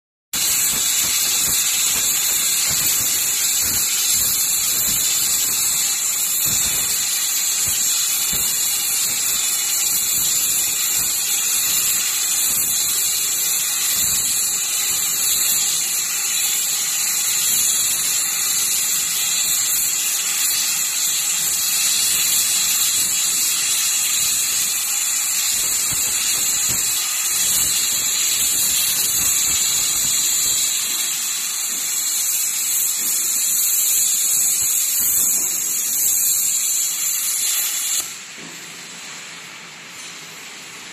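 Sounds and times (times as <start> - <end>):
plasma torch cutting hiss: 0.4 - 40.9.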